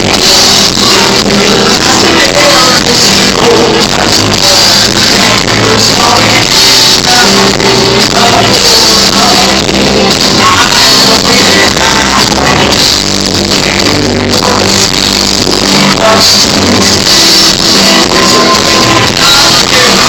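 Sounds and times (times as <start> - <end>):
distorted live band music: 0.0 - 20.0.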